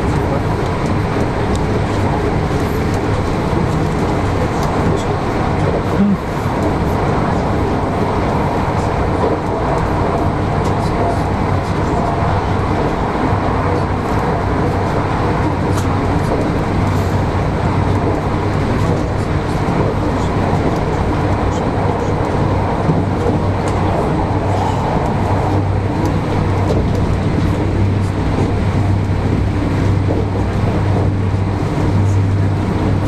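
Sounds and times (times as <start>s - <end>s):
passenger train rumbling: 0.0s - 33.0s.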